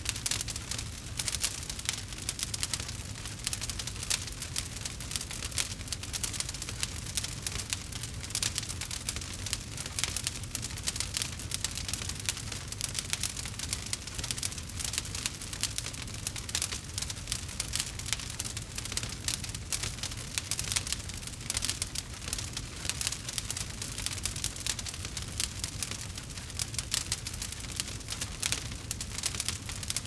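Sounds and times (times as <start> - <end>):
rain pattering: 0.0 - 30.0
wood fire crackling: 0.0 - 30.0.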